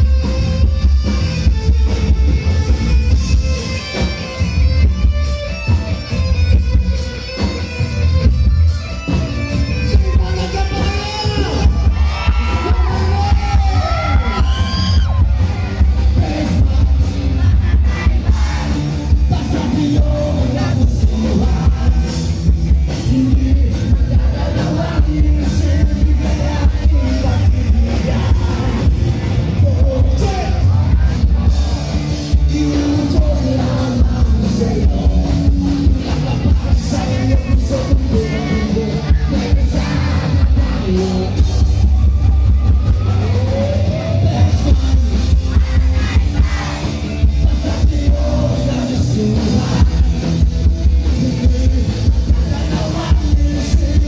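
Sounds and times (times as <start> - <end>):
booming bass: 0.0 - 54.0
drums: 0.0 - 54.0
electric guitar: 0.0 - 54.0
person singing: 9.8 - 54.0.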